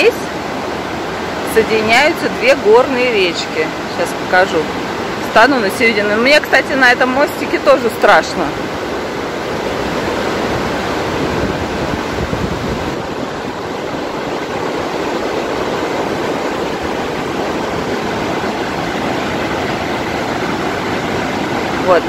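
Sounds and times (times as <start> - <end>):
fast-flowing river water: 0.0 - 22.0.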